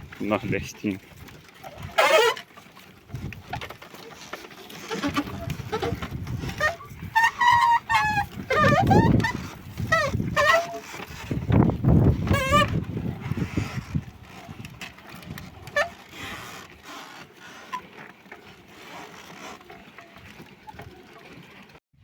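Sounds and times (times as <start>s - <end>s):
cart rumbling: 0.0s - 21.8s
cart axle squealing: 1.6s - 21.5s.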